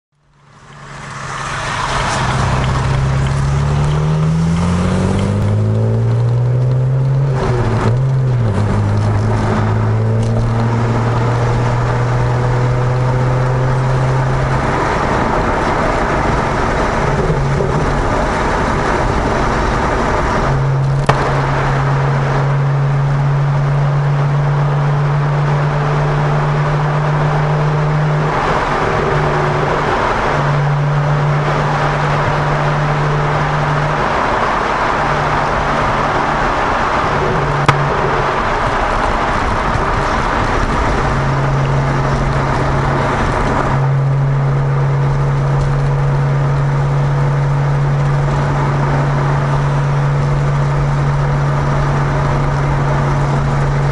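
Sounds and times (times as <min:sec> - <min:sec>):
car engine and exhaust accelerating: 0:00.2 - 0:53.9.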